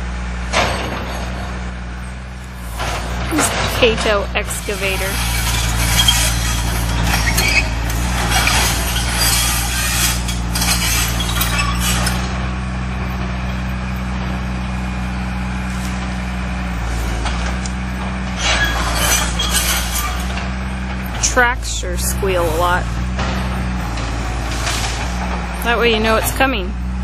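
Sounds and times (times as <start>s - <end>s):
diesel engine running: 0.0s - 27.0s
tracks squealing and clinking: 0.5s - 27.0s.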